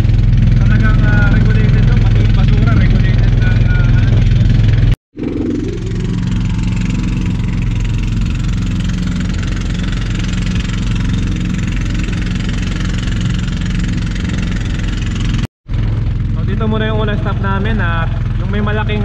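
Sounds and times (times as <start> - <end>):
water rushing past hull: 0.0 - 16.4
boat engine drone: 0.0 - 19.0.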